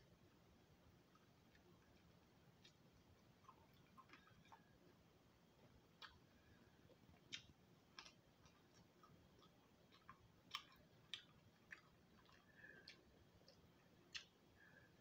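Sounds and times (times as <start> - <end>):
soft eating clicks: 1.0 - 5.0, 5.6 - 14.8.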